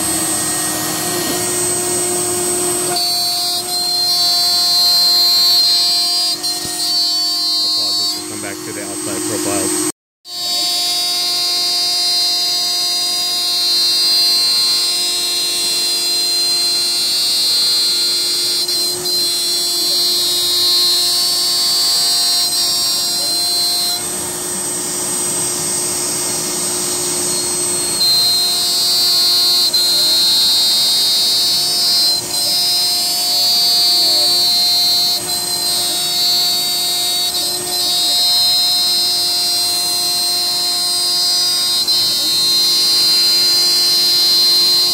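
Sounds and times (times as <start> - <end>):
rough cutting sound: 0.0 - 44.9
router spindle whine: 0.0 - 44.9.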